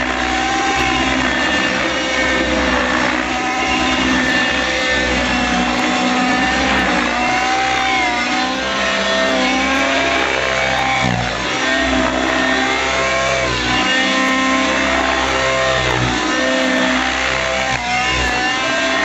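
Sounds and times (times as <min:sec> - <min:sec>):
rc helicopter engine and rotor whine: 0:00.0 - 0:19.0.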